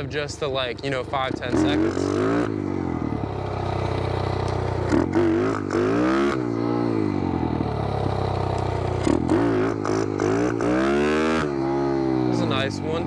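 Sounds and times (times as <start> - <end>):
pit bike engine revving: 0.0 - 13.0.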